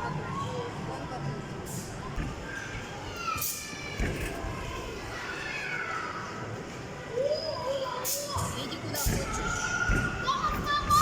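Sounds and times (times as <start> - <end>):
hubbub of indoor play hall: 0.0 - 11.0.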